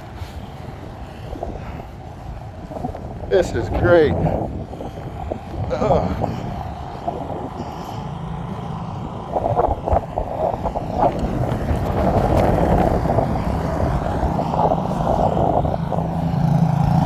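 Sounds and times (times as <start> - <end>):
vehicle engine: 0.0 - 17.0
wind buffeting microphone: 0.0 - 17.0.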